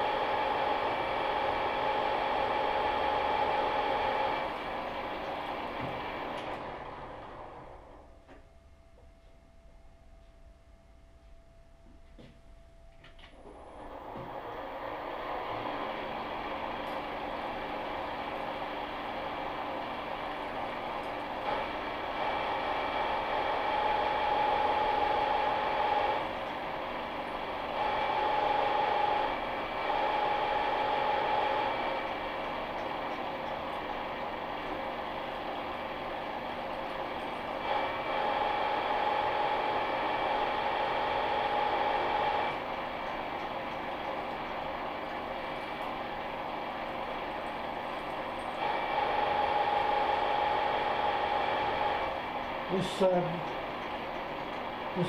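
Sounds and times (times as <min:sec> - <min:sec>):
milling machine running: 0:00.0 - 0:08.0, 0:13.4 - 0:55.0.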